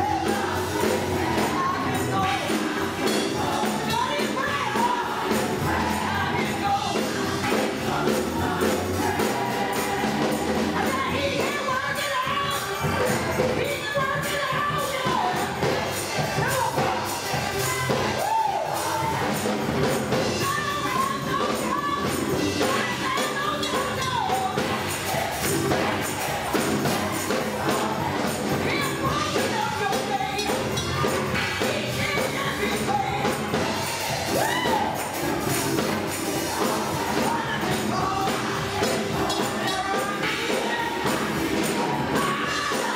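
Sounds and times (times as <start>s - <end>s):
band playing gospel music: 0.0s - 42.9s
choir singing: 0.0s - 42.9s
steady percussion beat: 0.0s - 42.9s.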